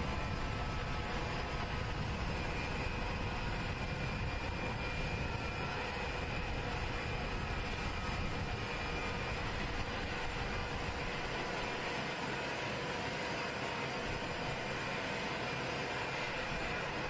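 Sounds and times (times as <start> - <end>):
jet engines running with high whine: 0.0 - 17.0.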